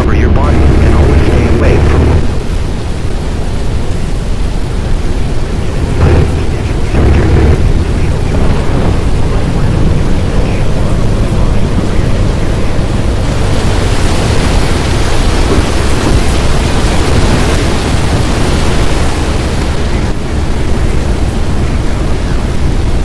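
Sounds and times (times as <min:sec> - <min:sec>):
deep thunder rumble: 0:00.0 - 0:23.0
rain hissing: 0:00.0 - 0:23.0.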